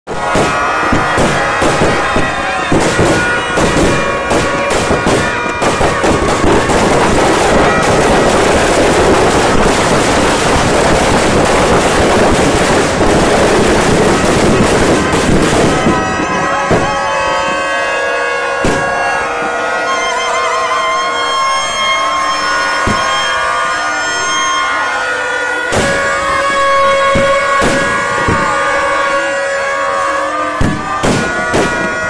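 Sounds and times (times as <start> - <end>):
firecrackers banging: 0.1 - 32.0.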